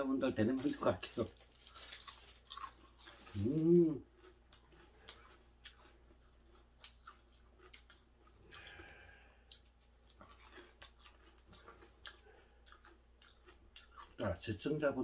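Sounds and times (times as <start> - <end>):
chewing crisp fish bones: 0.6 - 14.2.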